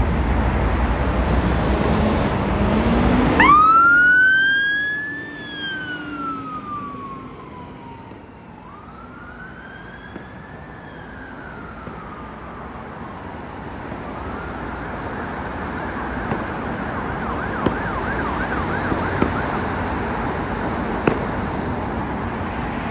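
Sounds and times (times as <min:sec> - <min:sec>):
emergency vehicle siren: 0:00.0 - 0:21.2
traffic noise: 0:00.0 - 0:22.9.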